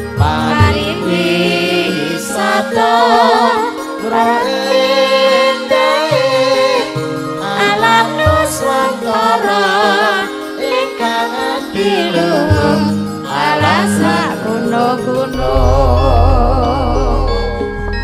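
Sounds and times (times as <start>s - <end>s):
electronic keyboard accompaniment: 0.0s - 18.0s
woman singing with vibrato: 0.0s - 18.0s.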